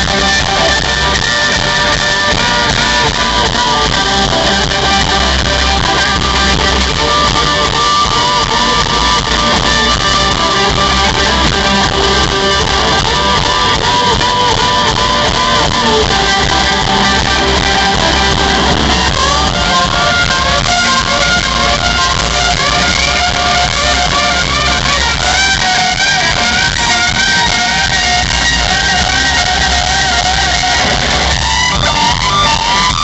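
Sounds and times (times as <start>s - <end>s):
bass and drums: 0.0s - 33.0s
electric guitars playing lead: 0.0s - 33.0s.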